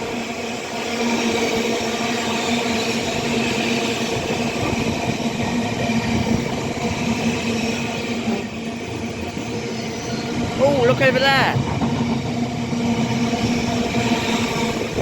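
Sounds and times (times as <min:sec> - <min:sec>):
freight train rumbling over rails: 0:00.0 - 0:15.0.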